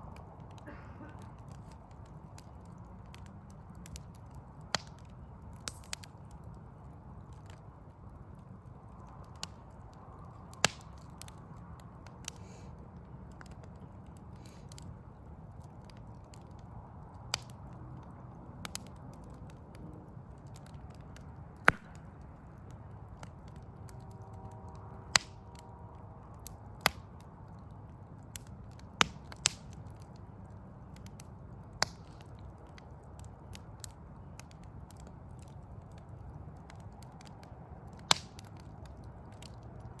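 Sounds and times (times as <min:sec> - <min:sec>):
low fire rumble: 0:00.0 - 0:40.0
wood fire crackling: 0:00.0 - 0:40.0.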